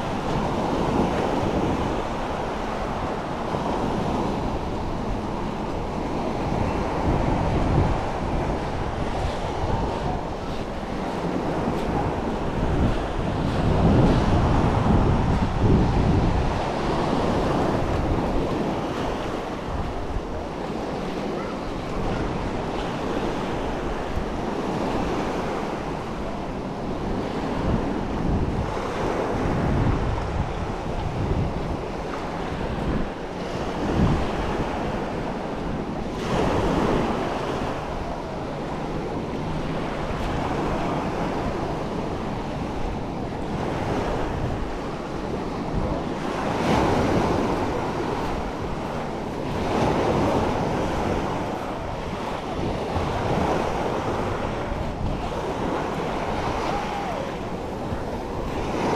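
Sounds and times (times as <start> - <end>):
sea waves breaking on shore: 0.0 - 58.9
wind buffeting microphone: 0.0 - 58.9.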